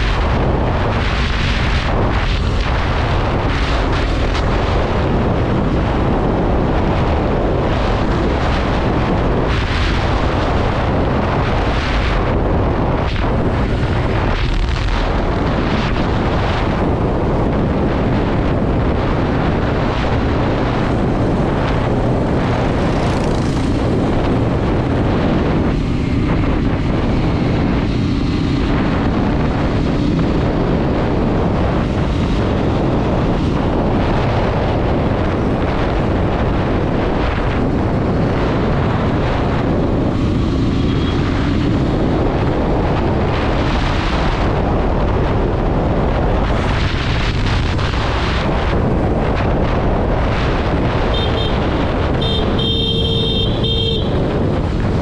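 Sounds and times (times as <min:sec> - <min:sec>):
motorcycle engine: 0:00.0 - 0:33.7, 0:34.6 - 0:43.6, 0:49.8 - 0:55.0
wind rumble on microphone: 0:00.0 - 0:55.0.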